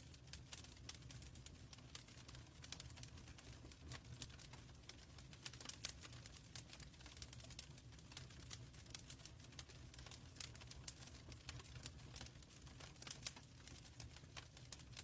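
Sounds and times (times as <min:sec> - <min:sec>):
faint low fire rumble: 0:00.0 - 0:15.0
wood fire crackling: 0:00.0 - 0:15.0.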